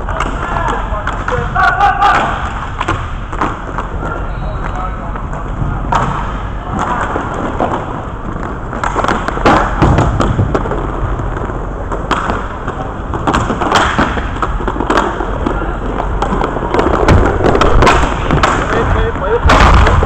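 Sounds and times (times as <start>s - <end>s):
skate wheels rolling: 0.0s - 20.0s
sticks and puck clacking: 0.0s - 20.0s.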